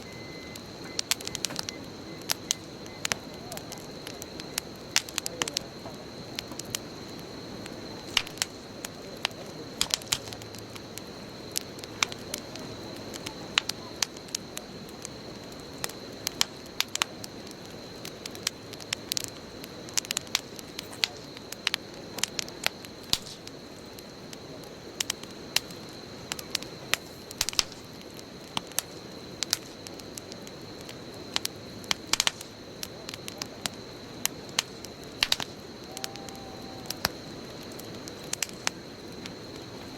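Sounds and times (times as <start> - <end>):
burning wood crackling and popping: 0.0 - 39.9
low rush of flame: 0.0 - 39.9.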